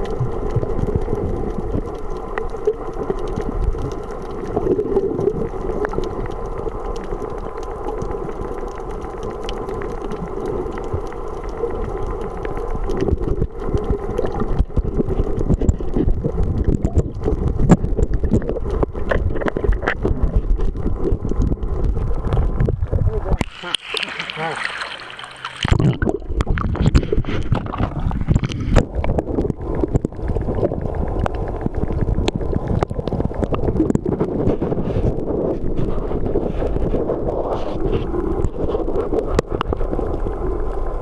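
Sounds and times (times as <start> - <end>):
crackling clicks of bubbles and gear: 0.0 - 24.1, 25.3 - 41.0
muffled underwater rumble: 0.0 - 41.0.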